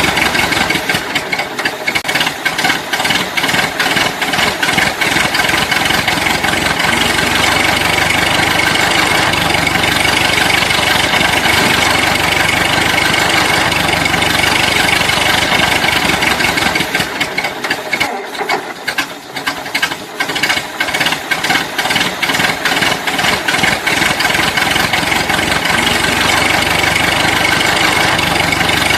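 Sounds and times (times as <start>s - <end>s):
engine running with a rattle: 0.0s - 28.9s.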